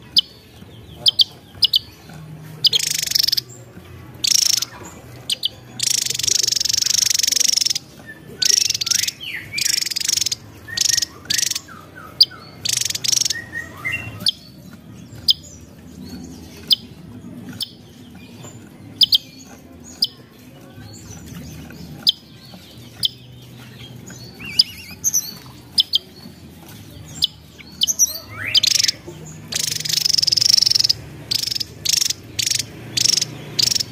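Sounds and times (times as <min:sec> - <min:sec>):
bird singing buzzy phrases: 0:00.0 - 0:33.9
sharp high bird chirps: 0:02.6 - 0:03.6, 0:04.2 - 0:20.2, 0:20.9 - 0:26.3, 0:27.0 - 0:33.9.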